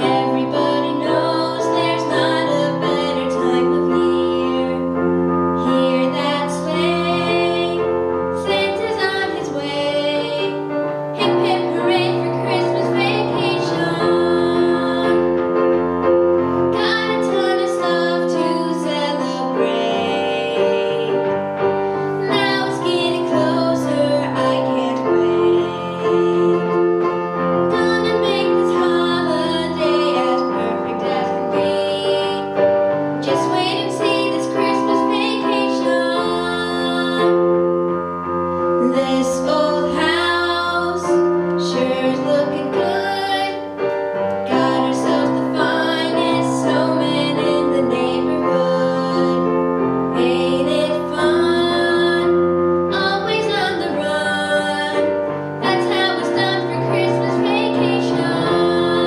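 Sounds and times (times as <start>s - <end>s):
girl singing into microphone: 0.0s - 5.0s, 5.6s - 15.8s, 16.7s - 21.4s, 22.1s - 27.0s, 27.6s - 37.6s, 38.8s - 59.0s
piano chords: 0.0s - 59.0s.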